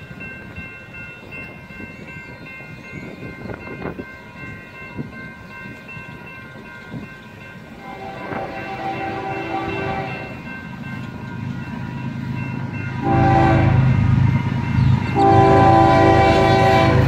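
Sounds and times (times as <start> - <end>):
freight train rumble: 0.0 - 17.0.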